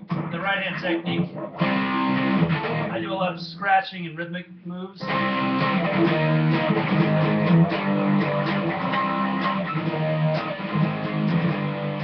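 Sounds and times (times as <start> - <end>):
electric guitar strumming chords: 0.0 - 3.1, 5.0 - 12.0.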